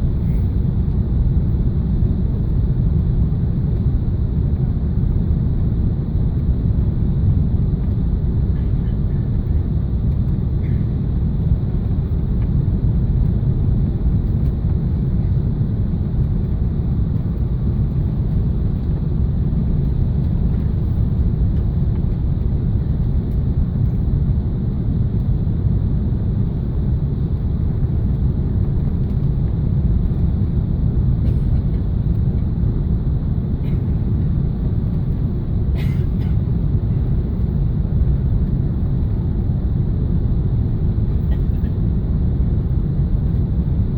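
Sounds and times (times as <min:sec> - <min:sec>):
airliner cabin engine rumble: 0:00.0 - 0:43.9.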